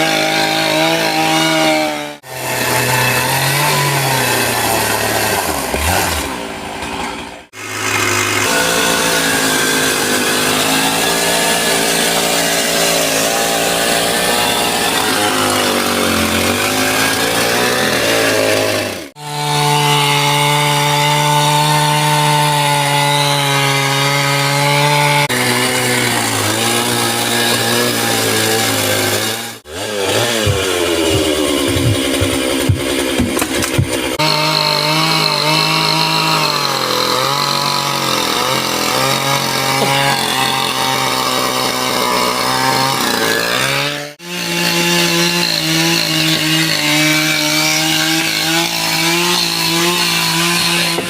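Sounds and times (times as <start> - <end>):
chainsaw cutting at high revs: 0.0 - 6.7, 7.4 - 51.0.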